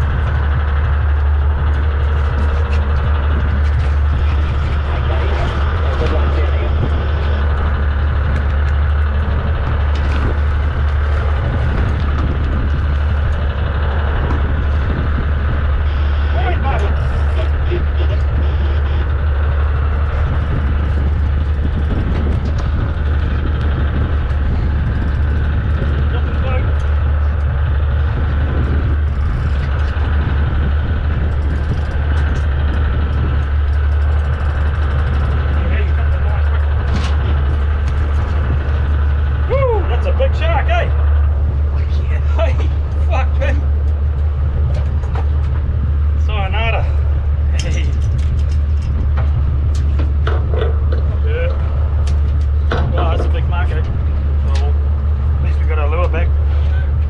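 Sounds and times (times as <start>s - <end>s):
boat engine droning: 0.0s - 57.0s
wind: 0.0s - 57.0s.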